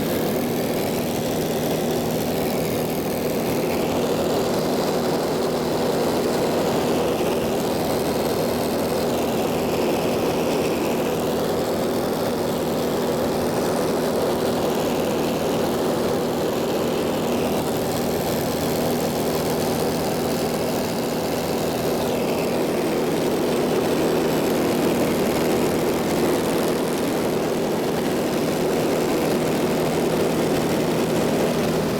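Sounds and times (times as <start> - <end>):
propeller airplane engine drone: 0.0 - 31.9.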